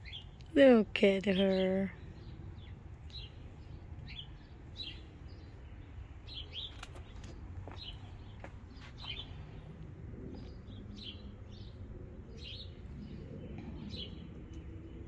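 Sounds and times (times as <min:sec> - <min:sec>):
low steady outdoor rumble: 0:00.0 - 0:15.0
small birds chirping: 0:00.0 - 0:15.0.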